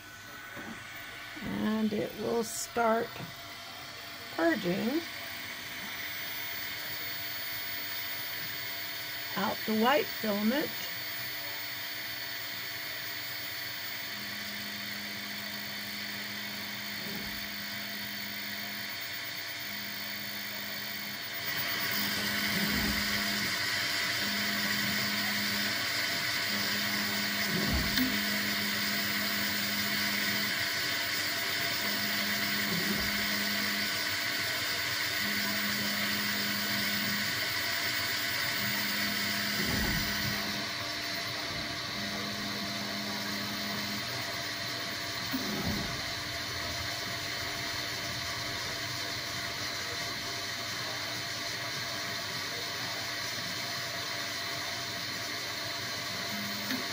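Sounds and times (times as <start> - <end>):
extruder motor humming: 0.0 - 56.9.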